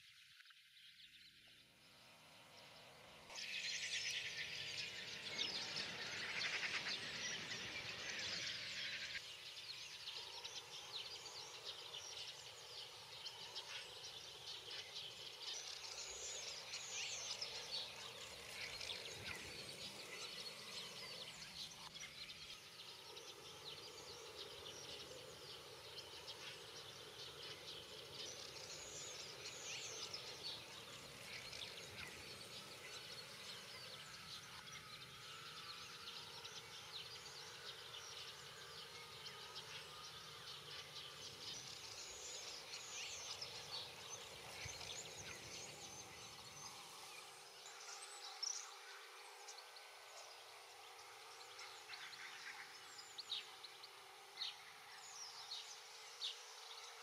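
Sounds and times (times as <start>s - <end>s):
flock of birds twittering: 2.2s - 57.0s.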